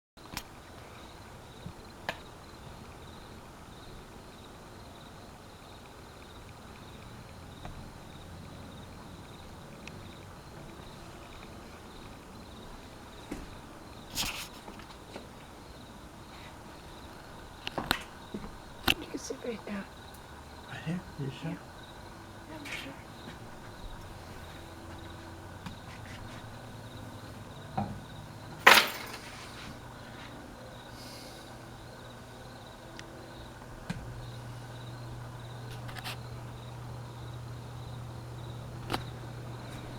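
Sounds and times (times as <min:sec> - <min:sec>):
ceiling fan whirring: 0:00.4 - 0:39.9.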